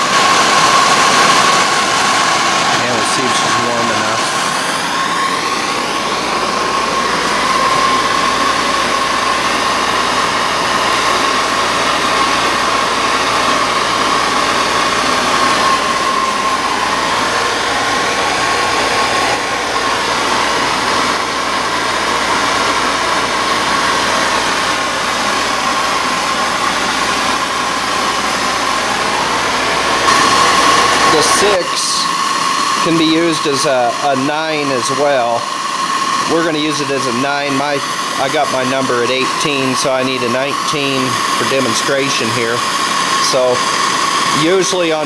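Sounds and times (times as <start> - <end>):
torch flame hissing: 0.0 - 45.0.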